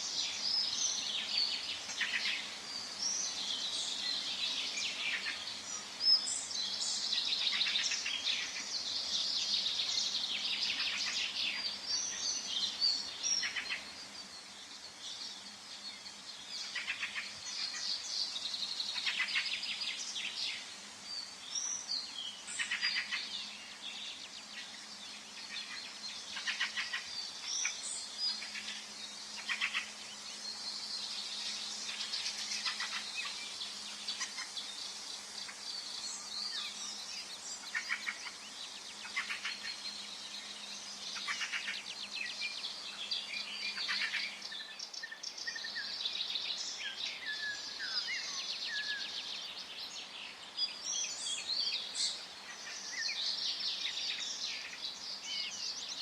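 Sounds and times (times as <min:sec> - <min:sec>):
faint background hiss: 0:00.0 - 0:56.0
songbirds chirping and trilling: 0:00.0 - 0:56.0.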